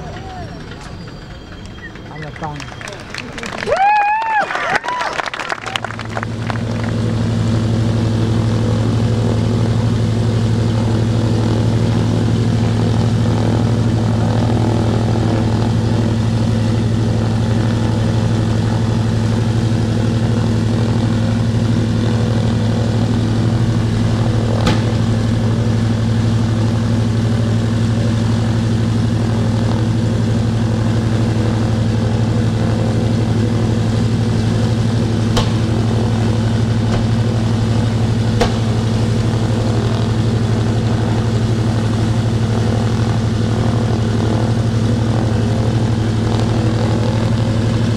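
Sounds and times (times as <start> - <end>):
radial engine droning: 0.0 - 47.9.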